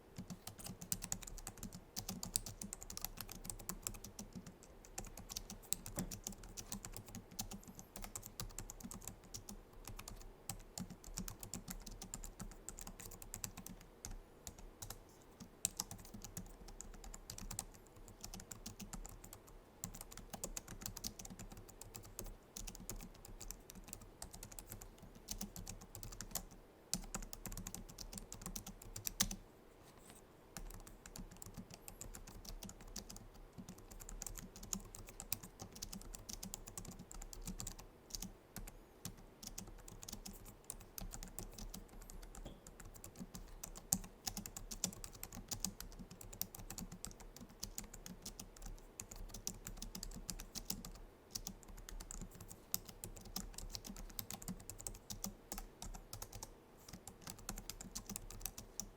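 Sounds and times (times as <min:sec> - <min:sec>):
keyboard typing clicks: 0:00.2 - 0:15.0, 0:15.6 - 0:29.4, 0:30.6 - 0:58.9.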